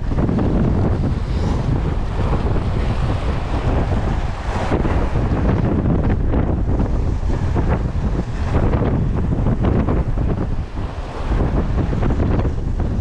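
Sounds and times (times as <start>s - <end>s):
strong wind buffeting microphone: 0.0s - 13.0s
waves rushing: 0.0s - 13.0s.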